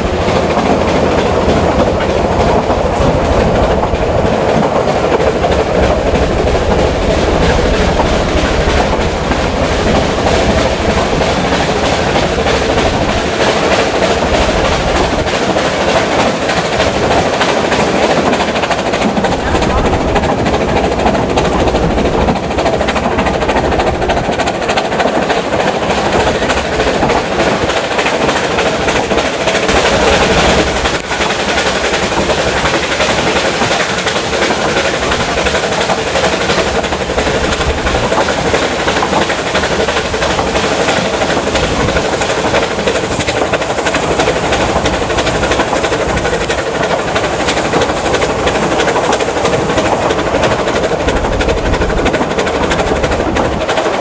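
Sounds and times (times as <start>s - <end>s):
train wheel clatter on rails: 0.0s - 54.0s.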